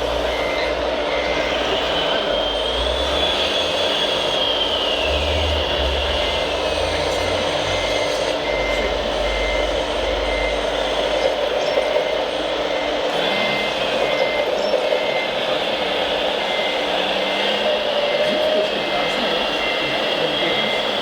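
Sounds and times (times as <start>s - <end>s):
reversing beeper beeps: 0.0s - 21.0s
steady background noise: 0.0s - 21.0s.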